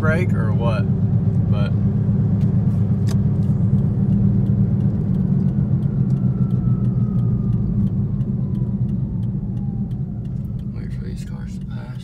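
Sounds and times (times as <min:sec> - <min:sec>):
low road drone inside car: 0:00.0 - 0:12.0.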